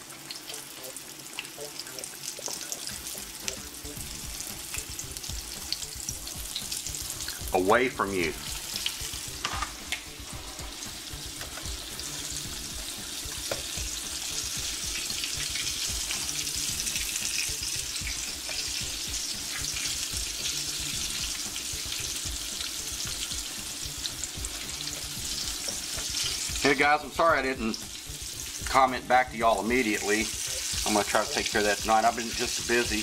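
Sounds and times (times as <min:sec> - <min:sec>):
chicken frying in oil: 0:00.0 - 0:33.0.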